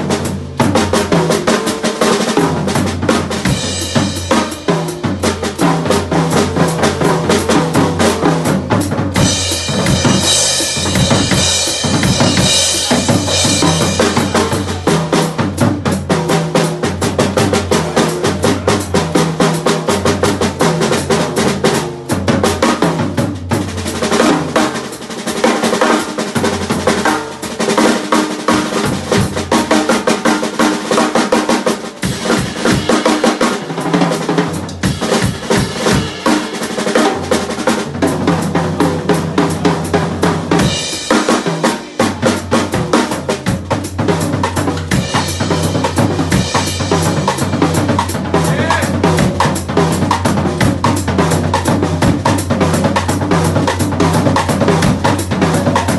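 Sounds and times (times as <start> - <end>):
drum kit playing: 0.0 - 55.9.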